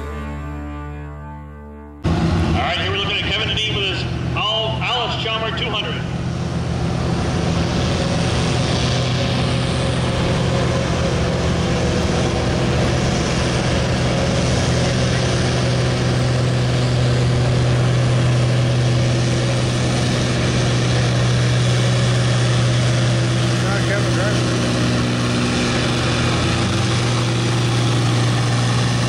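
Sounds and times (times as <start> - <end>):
tractor diesel engine under load: 2.0 - 29.0.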